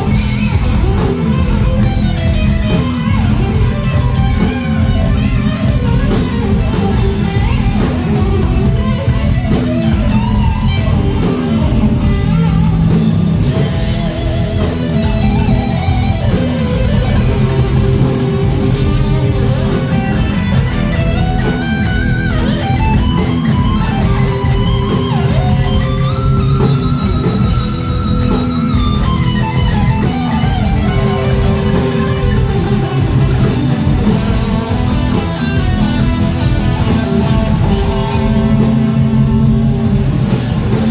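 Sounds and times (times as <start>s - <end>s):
bass: 0.0s - 40.9s
drums: 0.0s - 40.9s
electric guitar melody: 0.0s - 40.9s.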